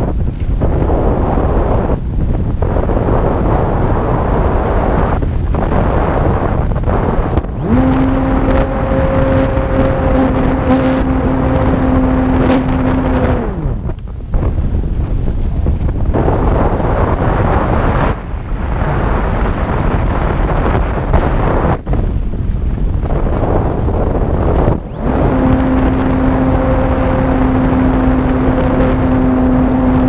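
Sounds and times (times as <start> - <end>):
airflow rushing over microphone: 0.0 - 30.0
propeller motor humming: 4.2 - 30.0.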